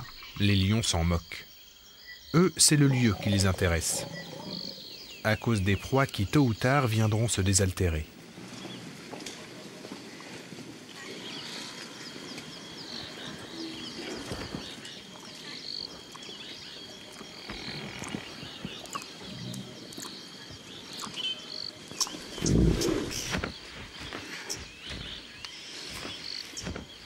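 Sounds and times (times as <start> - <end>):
high insect drone: 0.0 - 8.8, 9.8 - 27.0
birds chirping: 0.0 - 27.0.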